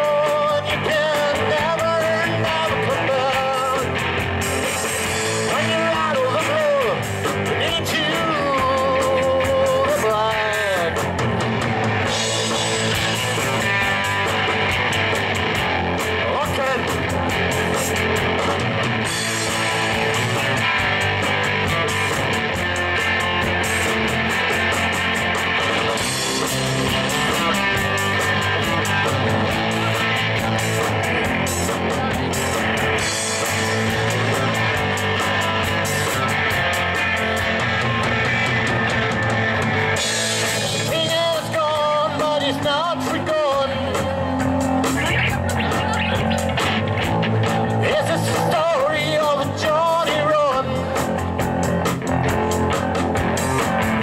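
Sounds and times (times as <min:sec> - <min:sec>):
bass guitar: 0:00.0 - 0:54.0
drum kit with steady beat: 0:00.0 - 0:54.0
electric guitars: 0:00.0 - 0:54.0.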